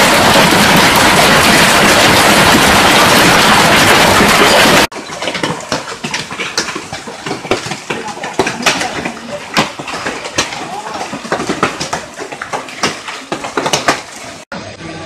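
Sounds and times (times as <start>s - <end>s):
hailstones clicking on hard surfaces: 0.0s - 14.4s
heavy hail roaring: 0.0s - 14.4s.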